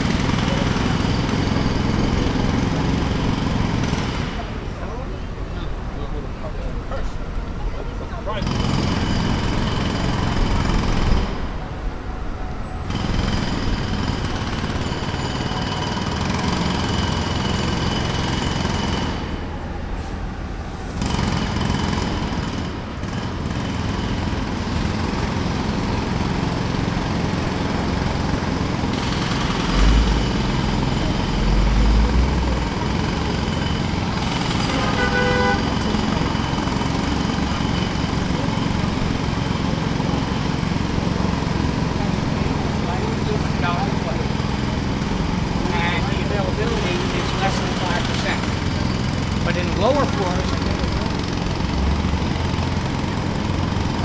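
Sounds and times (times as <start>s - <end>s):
jackhammer hammering pavement: 0.0s - 5.1s, 8.3s - 11.6s, 12.9s - 19.8s, 21.0s - 54.0s
traffic noise: 0.0s - 54.0s.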